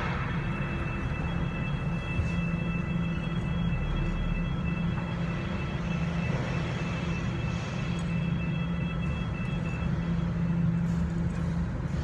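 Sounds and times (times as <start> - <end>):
faint high whine: 0.0 - 12.0
machine humming: 0.0 - 12.0.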